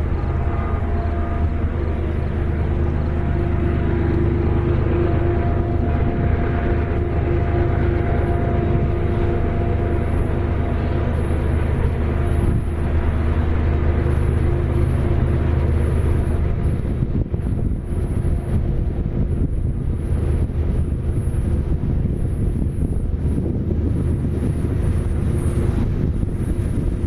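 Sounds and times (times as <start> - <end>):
diesel locomotive drone: 0.0 - 27.0.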